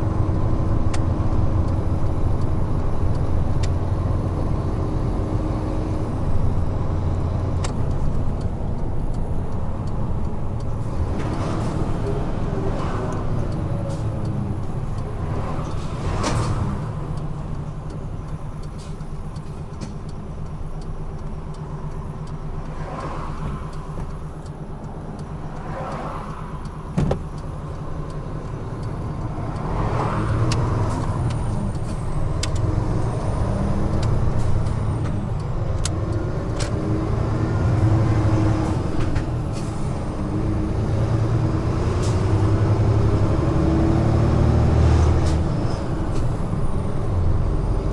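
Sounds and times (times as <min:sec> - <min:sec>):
road noise: 0:00.0 - 0:47.9.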